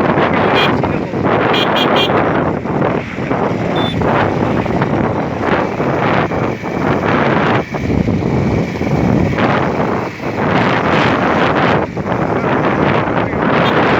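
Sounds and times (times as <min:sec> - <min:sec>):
road and vehicle noise: 0:00.0 - 0:13.9
wind buffeting microphone: 0:00.0 - 0:13.9.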